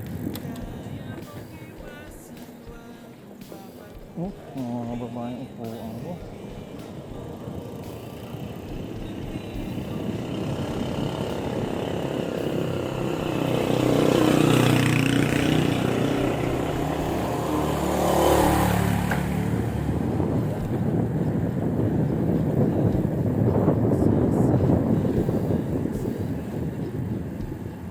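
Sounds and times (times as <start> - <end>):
vehicle engine passing: 0.0 - 27.9.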